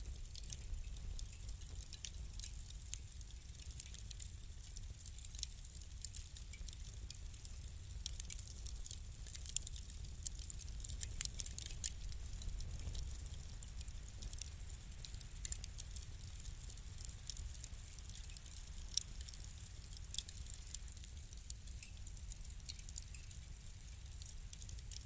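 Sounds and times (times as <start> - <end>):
low rumble of fire: 0.0 - 25.0
wood fire crackling: 0.0 - 25.0.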